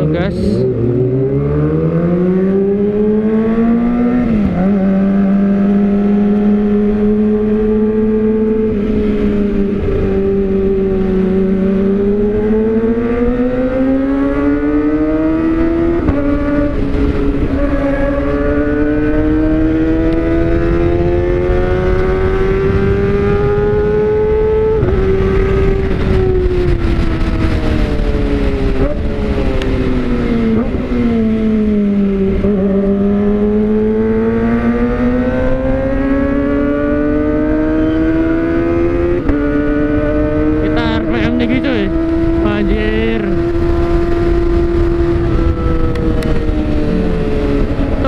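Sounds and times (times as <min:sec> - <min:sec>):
motorcycle engine accelerating: 0:00.0 - 0:48.0.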